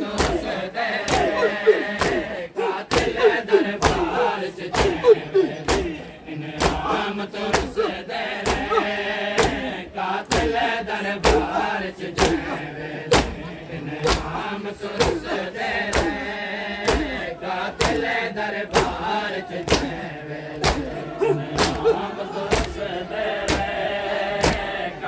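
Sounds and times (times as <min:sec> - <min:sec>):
men chanting: 0:00.0 - 0:25.0
men slapping chests in unison: 0:00.0 - 0:25.0.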